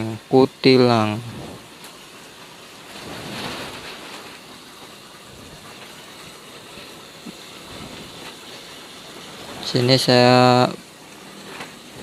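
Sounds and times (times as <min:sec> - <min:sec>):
wind over plastic roof sheeting: 0:01.0 - 0:12.0.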